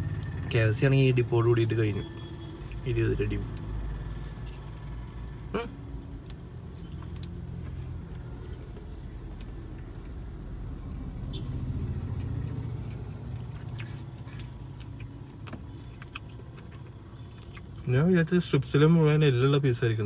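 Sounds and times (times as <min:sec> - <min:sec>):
vehicle rumble inside car: 0:00.0 - 0:20.0.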